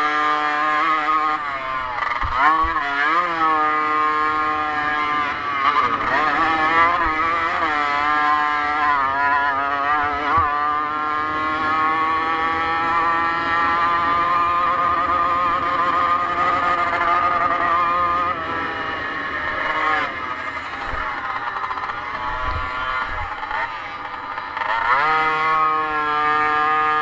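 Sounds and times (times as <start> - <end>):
motocross bike engine running hard: 0.0 - 27.0.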